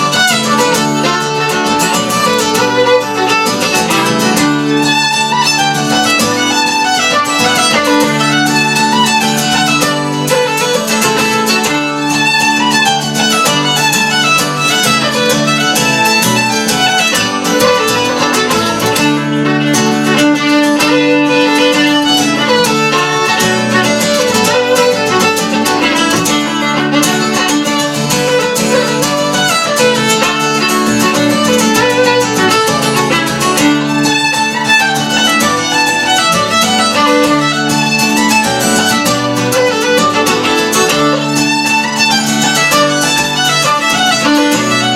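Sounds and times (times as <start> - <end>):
fiddle playing fast melody: 0.0 - 44.9
guitar accompaniment: 0.0 - 44.9.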